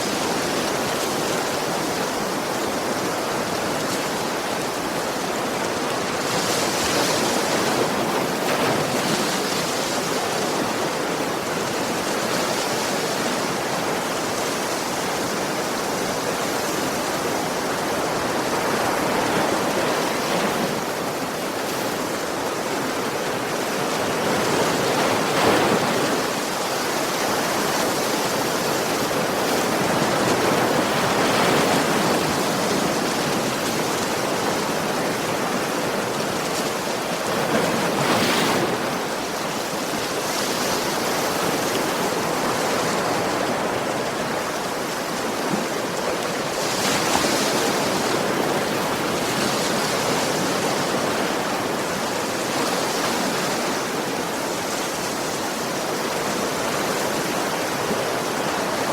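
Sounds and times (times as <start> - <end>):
sea waves washing in: 0.0 - 58.9.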